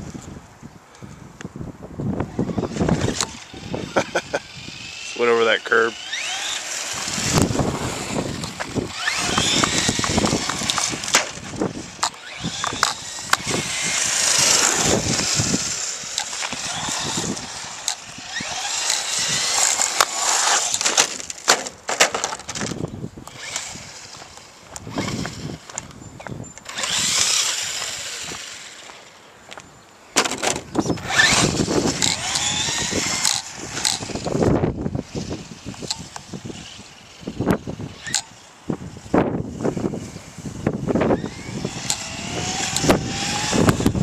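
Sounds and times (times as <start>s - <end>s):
electric motor whining: 2.1s - 21.5s, 22.3s - 29.2s, 30.3s - 44.0s.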